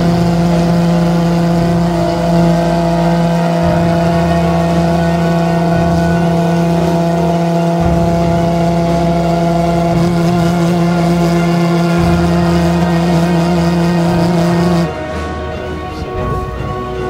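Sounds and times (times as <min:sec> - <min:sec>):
pulsejet engine buzzing drone: 0:00.0 - 0:17.0.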